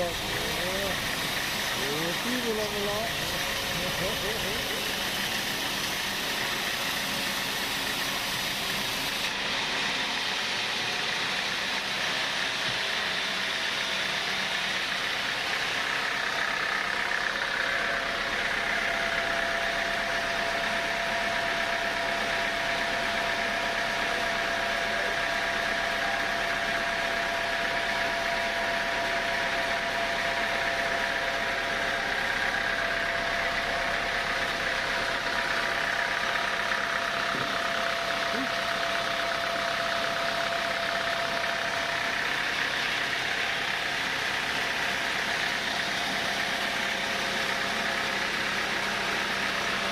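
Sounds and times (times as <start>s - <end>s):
sawmill saw whining: 0.0s - 49.9s.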